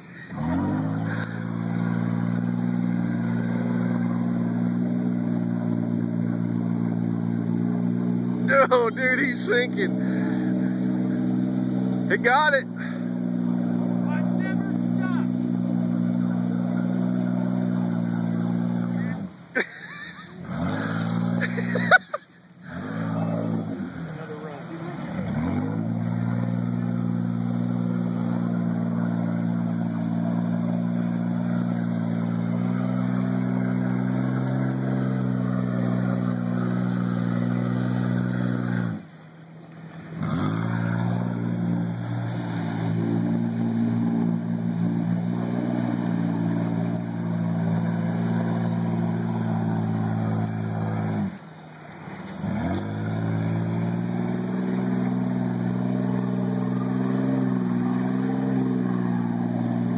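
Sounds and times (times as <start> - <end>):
car engine at high revs: 0.0 - 59.9
wheels spinning through water: 0.0 - 59.9.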